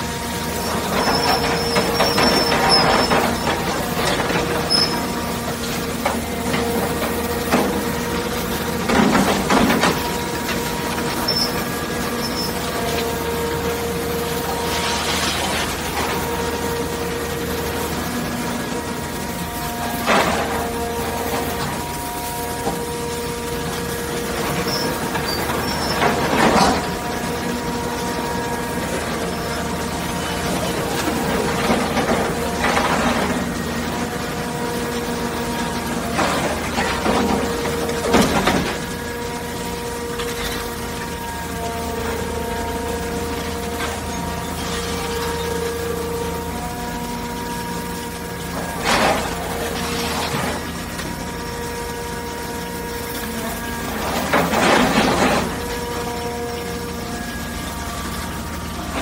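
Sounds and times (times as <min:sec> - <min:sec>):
heavy machinery hum and whine: 0:00.0 - 0:59.0.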